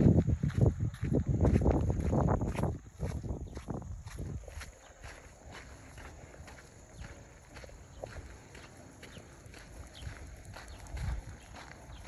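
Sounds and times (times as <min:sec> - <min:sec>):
footsteps crunching on dirt road: 0:00.0 - 0:12.0.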